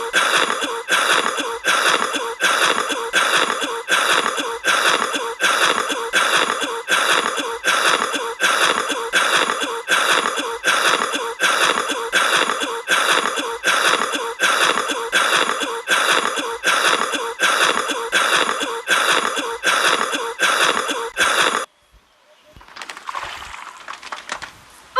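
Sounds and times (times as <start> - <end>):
cartoon ducks coughing: 0.0 - 21.7.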